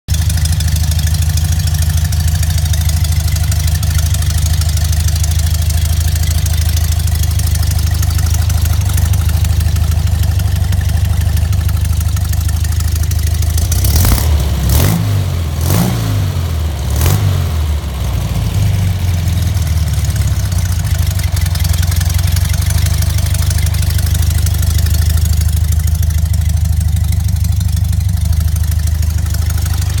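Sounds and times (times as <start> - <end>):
car engine idling: 0.1 - 30.0
engine throttle blips: 0.2 - 30.0.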